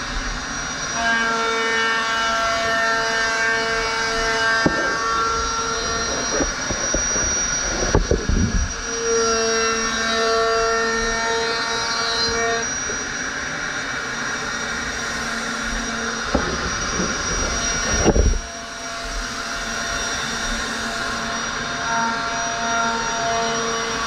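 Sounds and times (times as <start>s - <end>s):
router motor whining cutting foam: 0.5s - 24.0s.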